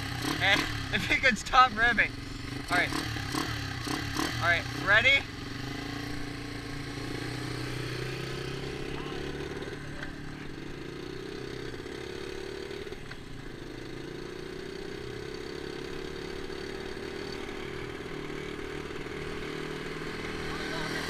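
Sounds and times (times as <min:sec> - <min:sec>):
small motorcycle engine accelerating: 0:00.0 - 0:21.0.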